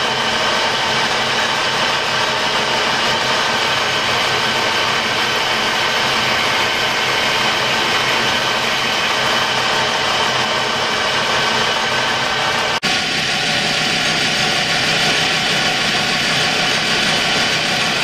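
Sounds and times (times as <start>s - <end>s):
lathe tool cutting copper disc: 0.0s - 18.0s
metal lathe running: 0.0s - 18.0s.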